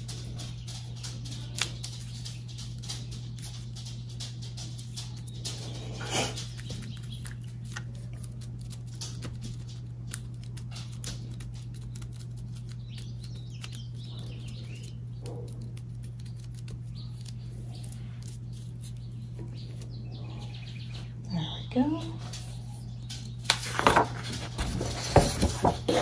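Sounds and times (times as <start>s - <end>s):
rustling and scratching of paper: 0.0s - 20.0s, 22.2s - 26.0s
steady low hum: 0.0s - 26.0s.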